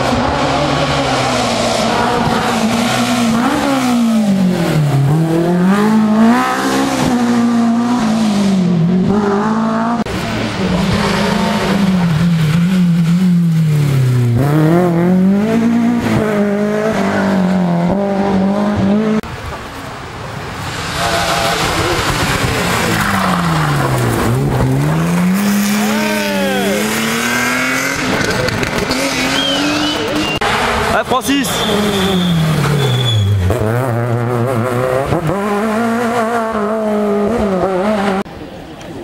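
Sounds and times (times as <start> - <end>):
rally car engines revving: 0.0 - 39.0.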